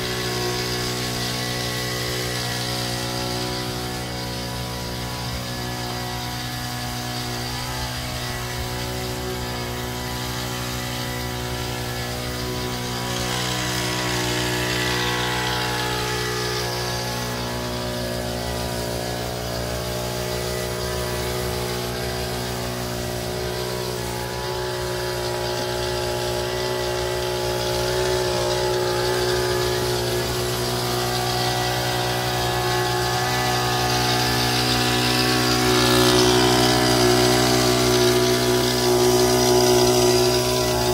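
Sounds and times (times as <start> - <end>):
small petrol engine running: 0.0 - 40.9.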